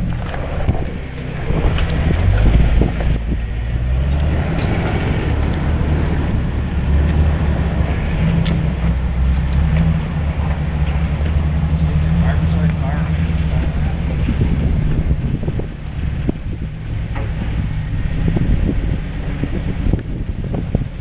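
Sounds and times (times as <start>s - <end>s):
truck engine at low revs: 0.0s - 21.0s.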